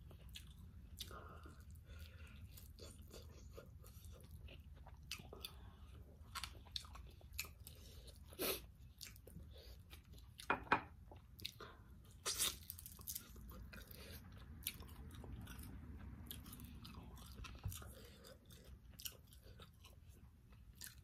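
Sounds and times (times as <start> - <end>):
person chewing: 0.0 - 21.0.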